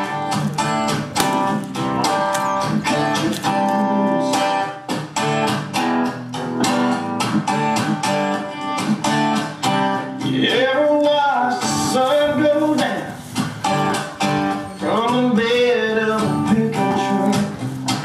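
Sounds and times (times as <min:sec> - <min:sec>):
strummed guitar music: 0:00.0 - 0:18.0.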